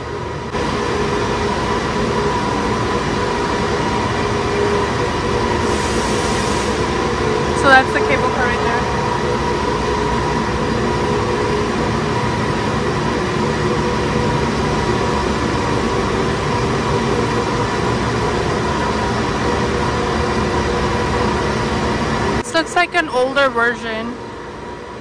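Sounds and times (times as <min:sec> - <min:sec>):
cable winding machinery rumble: 0:00.0 - 0:23.4.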